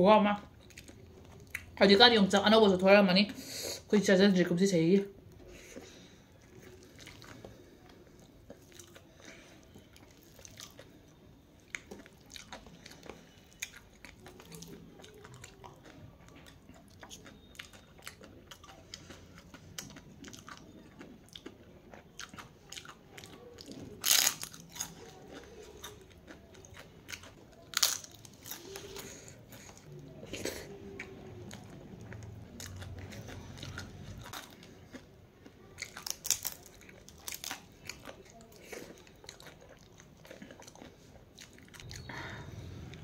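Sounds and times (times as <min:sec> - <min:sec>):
person chewing crunchy food: 0:00.6 - 0:01.8, 0:05.3 - 0:43.0.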